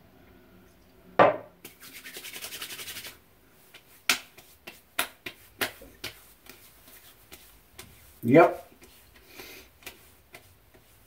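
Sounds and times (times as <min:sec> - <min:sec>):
hands patting face: 0:01.6 - 0:11.0
palms rubbing together: 0:01.6 - 0:11.0.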